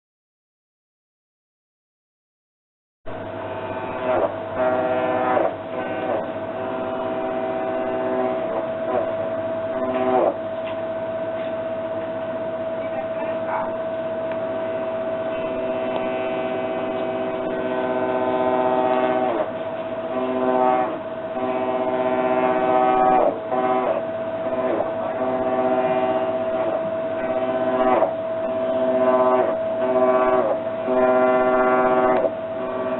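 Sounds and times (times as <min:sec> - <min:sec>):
humming drone: 0:03.1 - 0:32.9
washer-dryer whining: 0:03.2 - 0:32.9.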